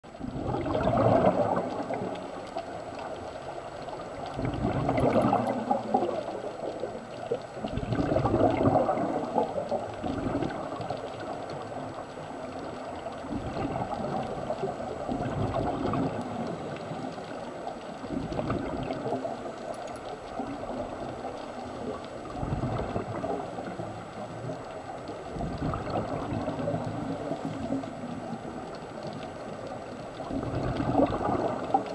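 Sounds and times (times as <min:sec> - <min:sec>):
rushing water underwater: 0:00.0 - 0:31.9.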